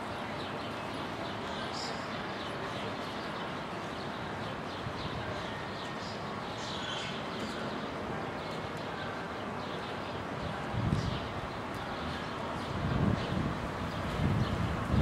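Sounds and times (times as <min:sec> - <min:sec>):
city background hum: 0:00.0 - 0:15.0
small birds chirping: 0:00.0 - 0:15.0.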